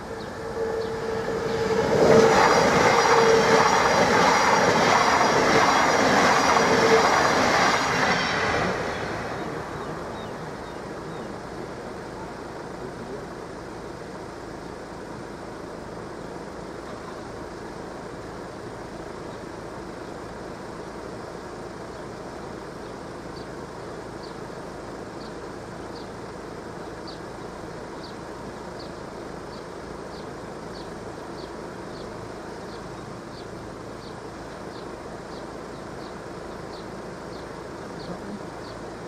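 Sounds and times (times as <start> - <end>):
outdoor background noise: 0.0 - 39.0.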